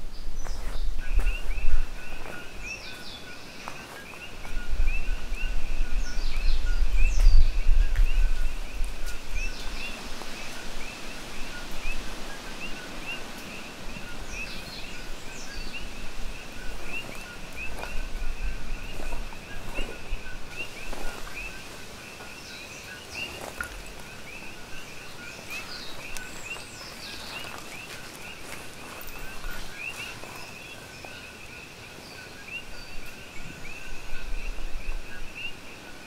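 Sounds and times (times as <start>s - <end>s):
bird calls: 0.0s - 36.0s.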